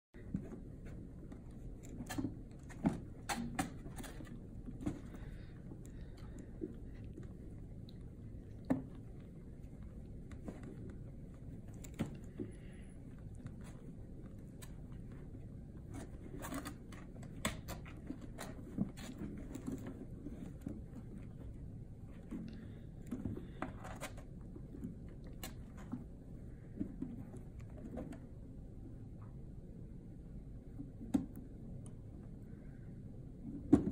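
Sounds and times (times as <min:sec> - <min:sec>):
kittens scuffling: 0:00.2 - 0:29.4
low background noise: 0:00.2 - 0:33.9.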